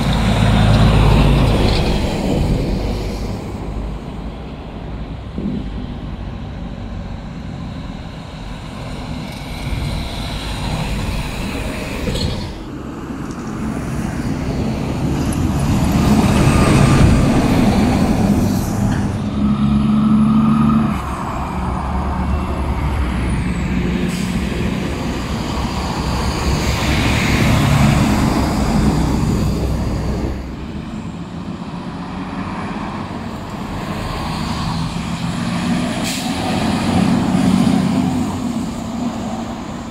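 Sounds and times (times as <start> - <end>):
dump trucks driving past: 0.0 - 39.9.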